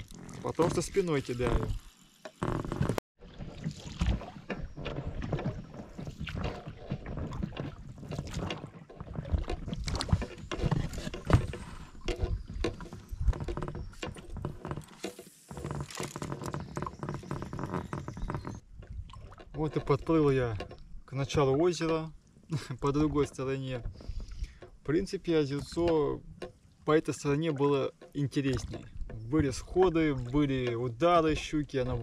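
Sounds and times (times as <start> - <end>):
oars splashing and knocking: 0.0 - 32.0.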